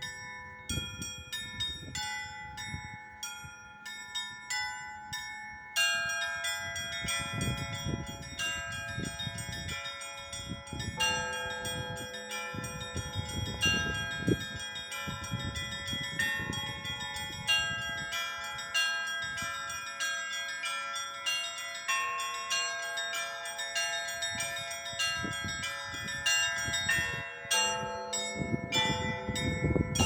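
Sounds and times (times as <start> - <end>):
bells ringing: 0.0 - 30.0
higher-pitched bells ringing: 0.0 - 30.0.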